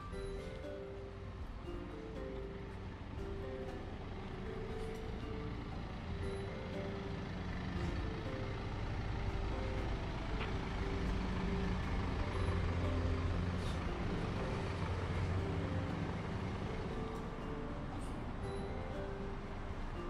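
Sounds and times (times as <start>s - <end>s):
heavy vehicle engine rumbling: 0.0s - 20.0s
street traffic: 0.0s - 20.0s.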